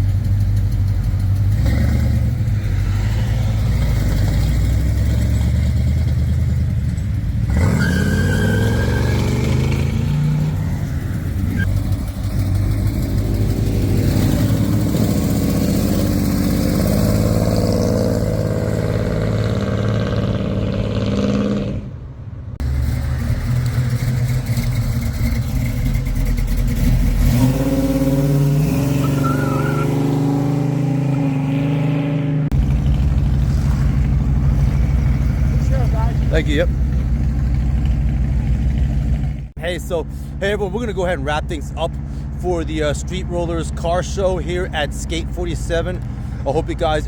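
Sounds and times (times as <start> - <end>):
car engines revving: 0.0 - 47.0.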